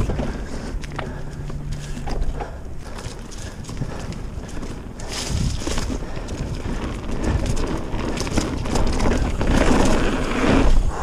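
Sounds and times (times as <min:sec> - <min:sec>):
bike chain and frame rattling: 0:00.0 - 0:10.9
wind rumble on microphone: 0:00.0 - 0:11.0
bike tyres knocking over rocks: 0:01.7 - 0:10.8.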